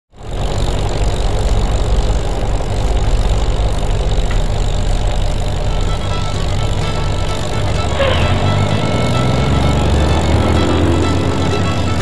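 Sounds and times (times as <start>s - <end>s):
tractor engine idling: 0.1s - 12.0s.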